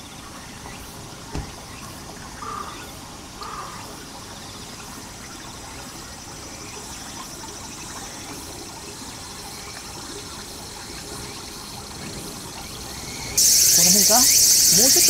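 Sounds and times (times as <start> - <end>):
running water rushing: 0.1 - 15.0.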